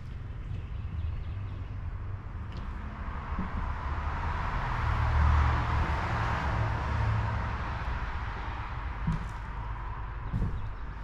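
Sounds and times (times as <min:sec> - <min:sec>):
rushing noise with low rumble: 0:01.9 - 0:11.0.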